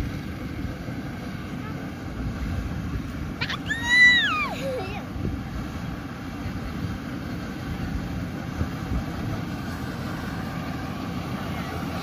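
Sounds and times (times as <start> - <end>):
distant combine harvester rumble: 0.0 - 12.0.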